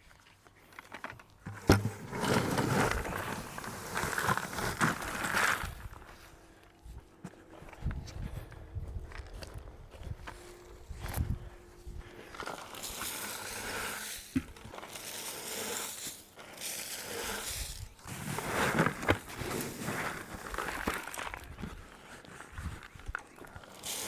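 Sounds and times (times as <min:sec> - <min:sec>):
wood-chip mulch rustling and crunching: 0:01.5 - 0:06.4, 0:07.5 - 0:24.0.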